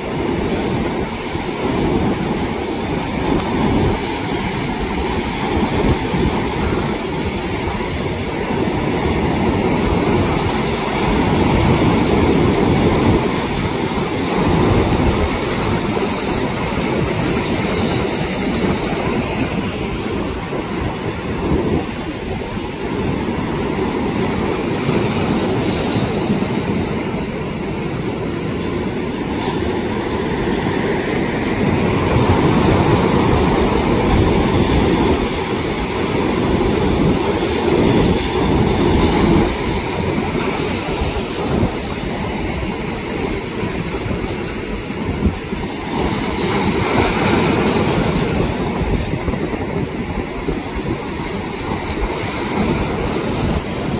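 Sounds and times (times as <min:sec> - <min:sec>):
heavy surf breaking: 0:00.0 - 0:53.9.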